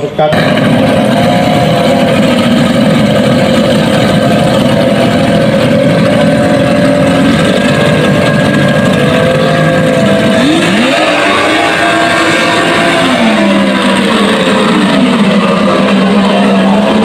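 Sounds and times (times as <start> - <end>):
racing outboard motors running: 0.0 - 17.0.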